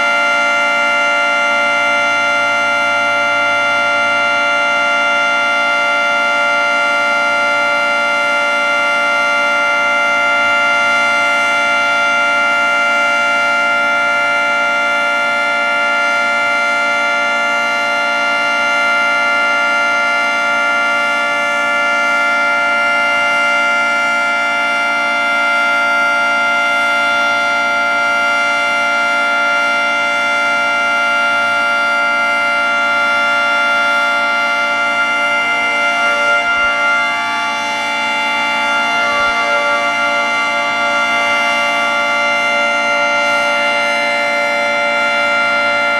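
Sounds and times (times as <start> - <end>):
outdoor warning siren chord: 0.0 - 45.9.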